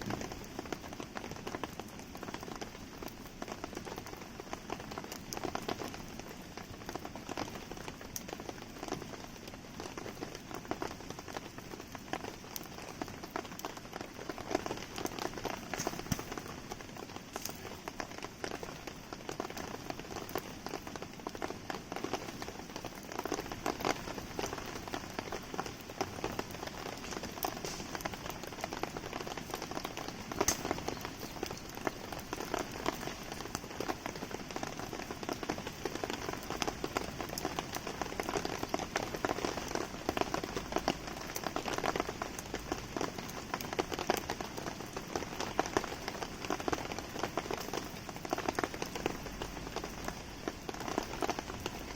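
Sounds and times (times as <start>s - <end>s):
steady rain falling: 0.0s - 51.9s
wood fire crackling: 0.0s - 51.9s.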